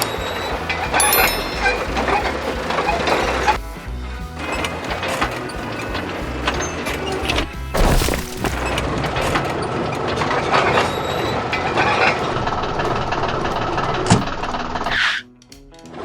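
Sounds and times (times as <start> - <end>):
engine rumble: 0.0 - 14.9.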